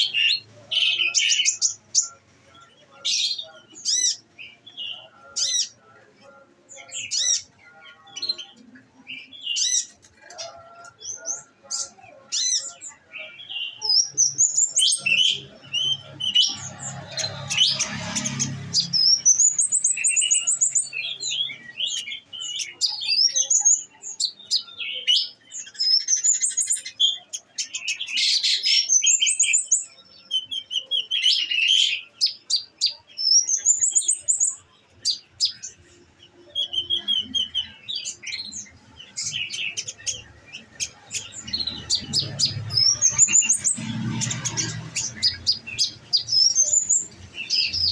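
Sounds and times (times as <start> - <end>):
bird singing high chirps and trills: 0.0 - 47.9.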